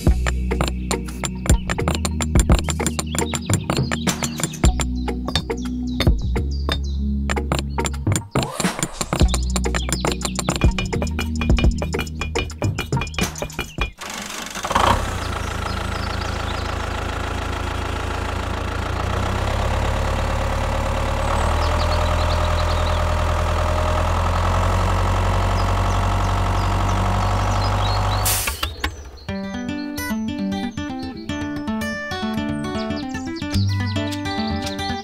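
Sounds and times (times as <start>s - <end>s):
tractor engine running: 0.0s - 30.7s.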